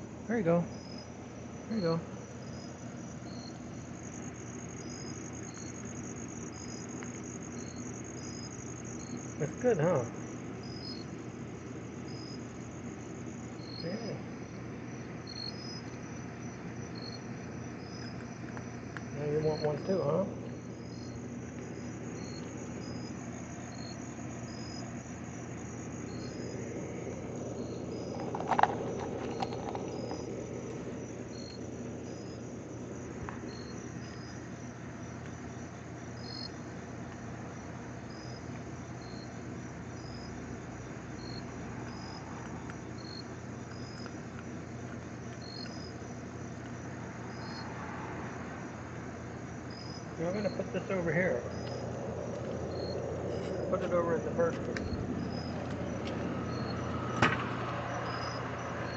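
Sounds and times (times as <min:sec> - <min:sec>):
insects chirping: 0:00.0 - 0:58.9
steady high insect trill: 0:00.0 - 0:58.9.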